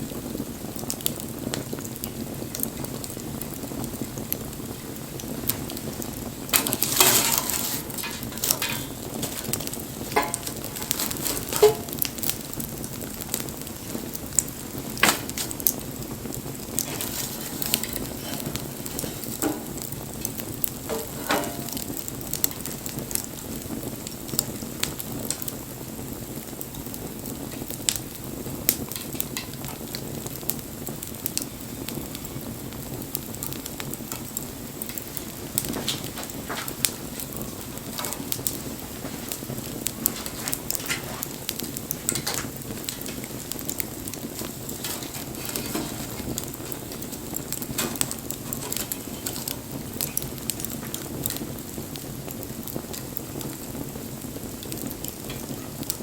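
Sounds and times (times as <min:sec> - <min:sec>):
fire hiss: 0:00.0 - 0:56.0
wood bonfire crackling: 0:00.0 - 0:56.0.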